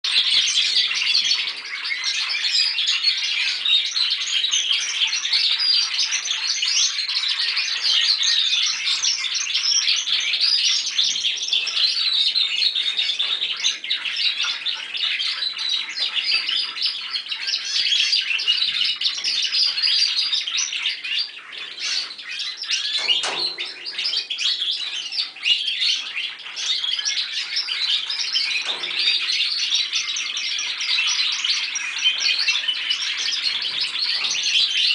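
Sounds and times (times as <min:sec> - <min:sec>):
canaries singing: 0:00.0 - 0:34.9.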